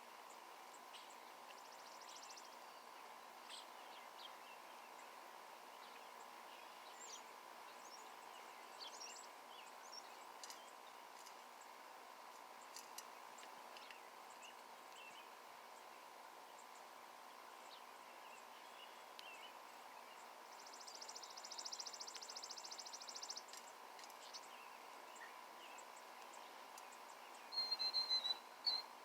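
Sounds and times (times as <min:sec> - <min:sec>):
background hiss: 0:00.0 - 0:29.0
faint hum: 0:00.0 - 0:29.0
small songbirds chirping: 0:00.0 - 0:29.0.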